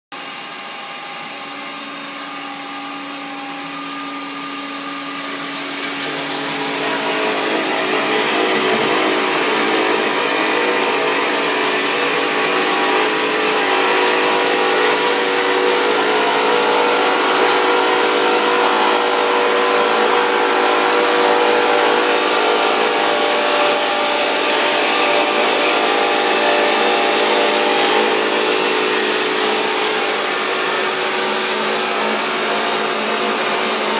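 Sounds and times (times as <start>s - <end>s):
metal-cutting saw whining: 0.1s - 33.9s.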